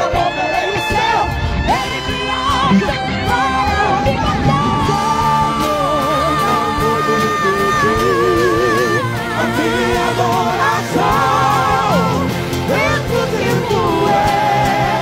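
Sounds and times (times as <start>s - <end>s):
gospel song with band: 0.0s - 15.0s.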